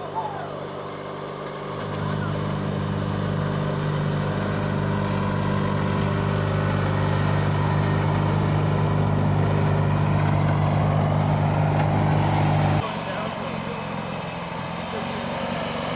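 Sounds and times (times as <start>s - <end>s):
riding lawn tractor engine running: 0.0s - 15.9s.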